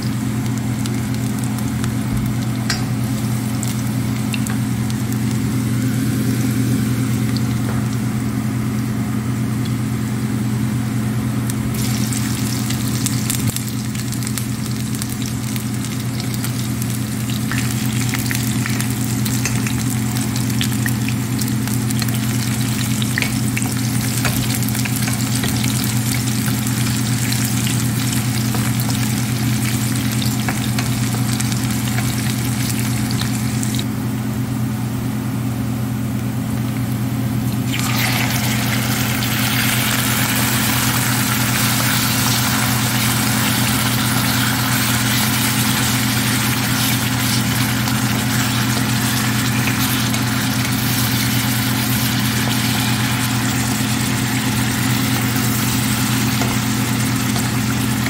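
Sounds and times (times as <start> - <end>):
garlic and onion sizzling in oil: 0.0 - 10.6, 11.6 - 33.9, 37.5 - 58.0
steady low hum: 0.0 - 58.0.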